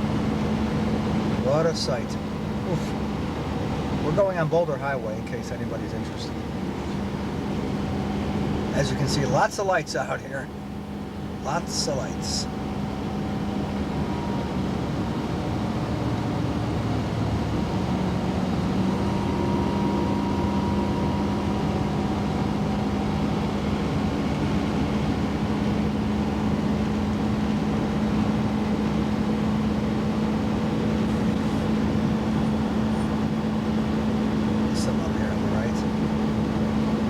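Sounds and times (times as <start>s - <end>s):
car engine and road noise: 0.0s - 37.0s
low hum: 0.0s - 37.0s.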